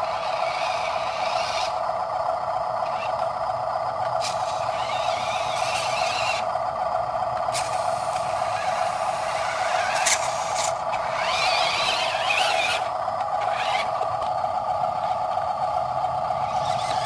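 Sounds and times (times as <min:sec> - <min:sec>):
model truck motor whining: 0:00.0 - 0:17.0.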